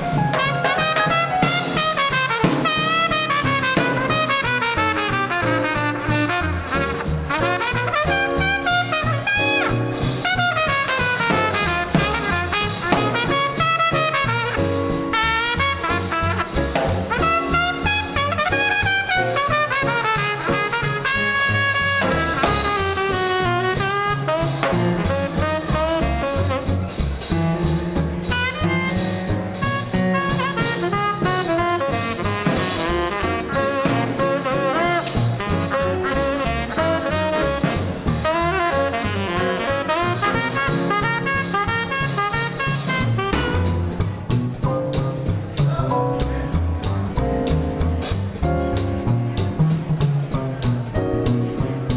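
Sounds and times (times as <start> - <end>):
drums swing beat: 0.0 - 51.9
piano: 0.0 - 51.9
walking bass: 0.0 - 51.9
horn solo: 0.1 - 27.3, 28.2 - 44.2.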